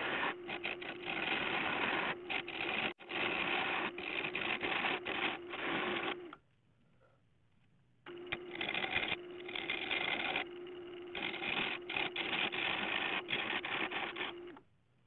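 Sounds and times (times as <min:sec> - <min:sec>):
wood lathe humming: 0:00.0 - 0:06.2, 0:08.1 - 0:14.6
gouge scraping spinning wood: 0:00.0 - 0:06.3, 0:08.1 - 0:14.5.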